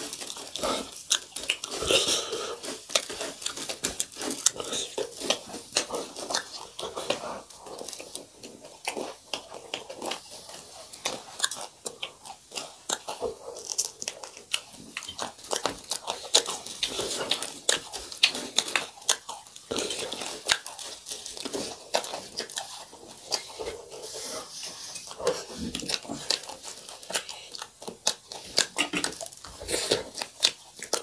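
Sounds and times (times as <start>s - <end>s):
person chewing crisp food: 0.0s - 31.0s.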